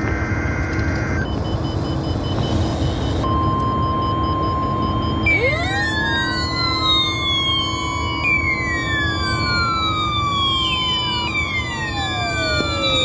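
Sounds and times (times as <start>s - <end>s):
steady warning alarm tone: 0.2s - 13.0s
sweeping siren-like tones: 0.3s - 13.0s.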